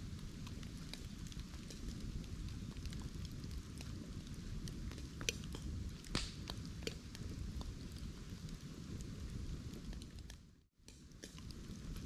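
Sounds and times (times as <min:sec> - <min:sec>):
bamboo crackling: 0:00.0 - 0:12.0
fire rumbling: 0:00.0 - 0:12.0.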